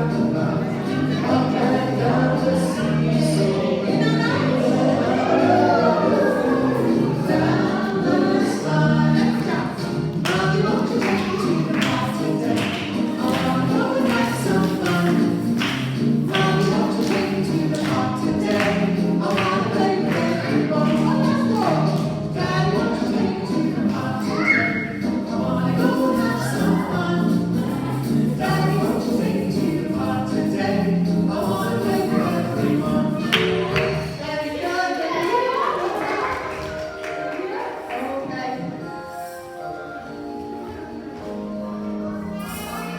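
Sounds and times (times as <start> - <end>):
group singing over music: 0.0 - 35.4.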